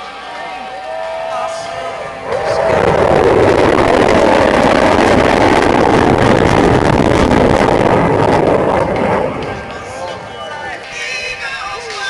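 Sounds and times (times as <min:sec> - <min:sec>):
jet roar passing overhead: 0:00.0 - 0:11.9.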